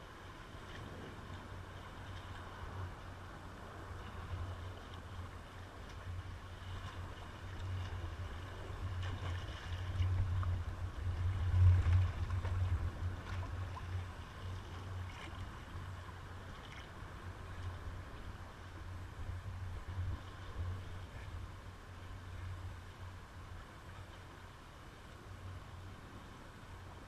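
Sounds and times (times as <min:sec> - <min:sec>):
water lapping and splashing: 0:00.0 - 0:27.0.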